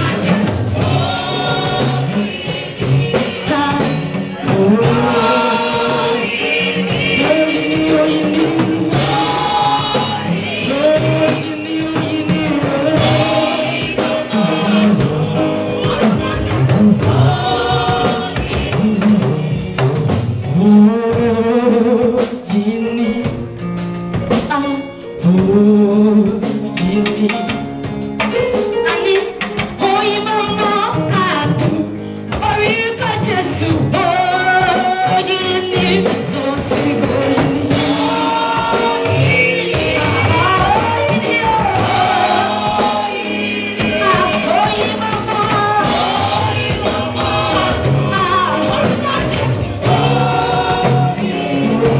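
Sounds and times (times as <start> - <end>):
women singing gospel: 0.0 - 23.5, 29.8 - 51.9
live drum kit: 0.0 - 51.9.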